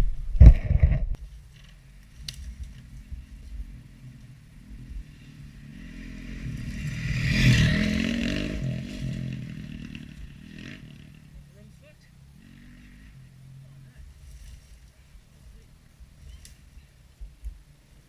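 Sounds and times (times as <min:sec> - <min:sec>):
dirt bike engine revving: 0:01.4 - 0:17.0.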